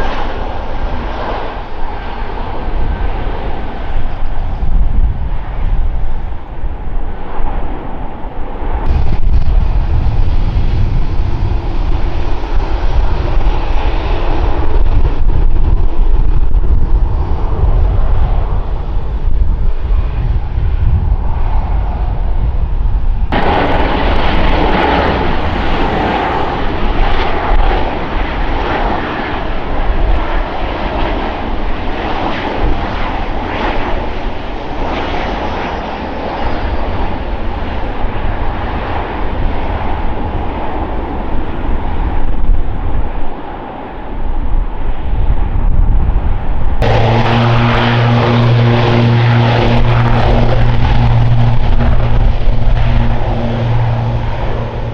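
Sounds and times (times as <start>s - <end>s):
airliner engines roaring: 0.0s - 54.9s
wind on microphone: 0.0s - 54.9s.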